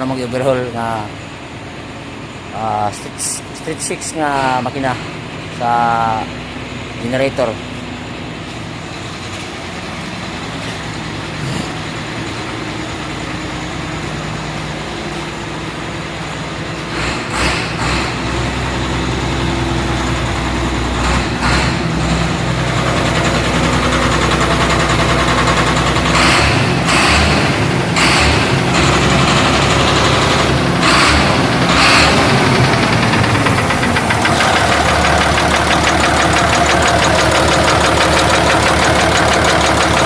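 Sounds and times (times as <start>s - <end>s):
diesel engine running generator: 0.0s - 40.0s.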